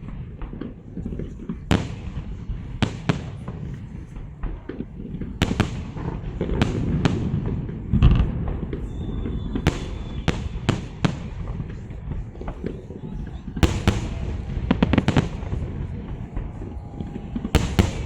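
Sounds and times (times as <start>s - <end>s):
fireworks bangs: 0.0s - 18.0s
low rumble of bursting shells: 0.0s - 18.0s.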